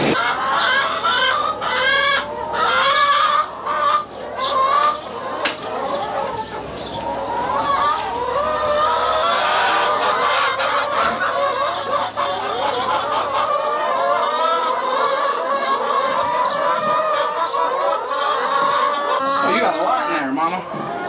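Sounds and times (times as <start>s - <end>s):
hens clucking and squawking: 0.0s - 21.0s.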